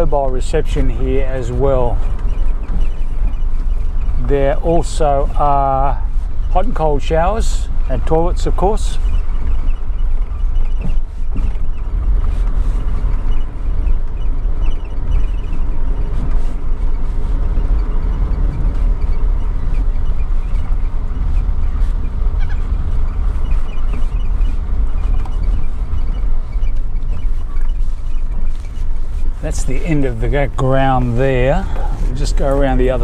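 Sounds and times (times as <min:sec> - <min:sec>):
vehicle driving slowly: 0:00.0 - 0:33.0.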